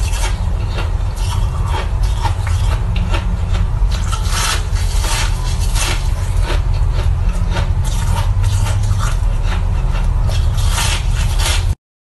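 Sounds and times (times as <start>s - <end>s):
chewing crunchy ice: 0.0s - 11.8s
low rumble: 0.0s - 11.8s.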